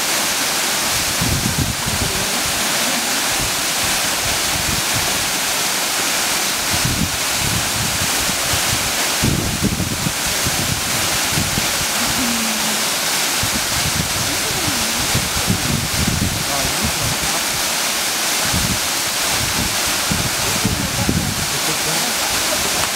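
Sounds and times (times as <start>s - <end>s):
waterfall rushing: 0.0s - 22.9s
wind rumbling on microphone: 0.8s - 5.6s, 6.6s - 17.7s, 18.3s - 22.9s.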